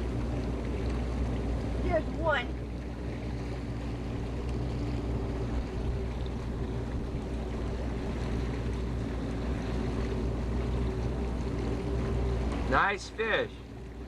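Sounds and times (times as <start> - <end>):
boat motor humming: 0.0 - 14.0
water noise: 0.0 - 14.0
wind: 0.0 - 14.0.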